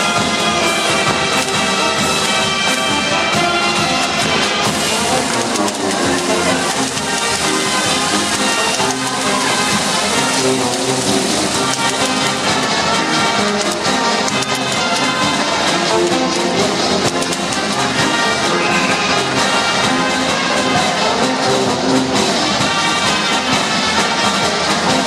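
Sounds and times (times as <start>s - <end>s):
dance music with brass: 0.0s - 25.0s.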